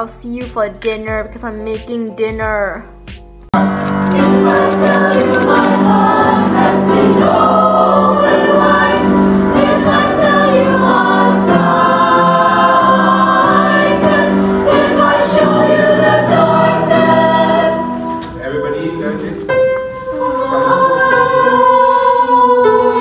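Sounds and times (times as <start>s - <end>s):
choir singing: 3.9s - 23.0s.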